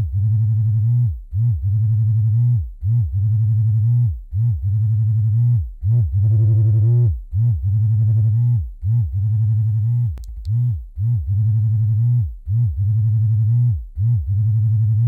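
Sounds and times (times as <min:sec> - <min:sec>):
electric vibrator buzzing: 0:00.0 - 0:15.0.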